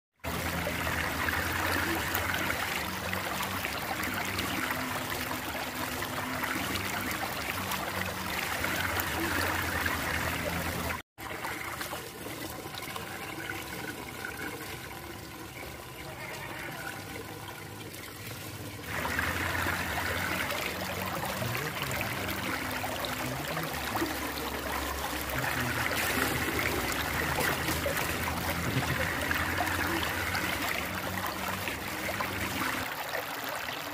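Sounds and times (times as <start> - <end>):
water rushing down a whirlpool: 0.2 - 33.9.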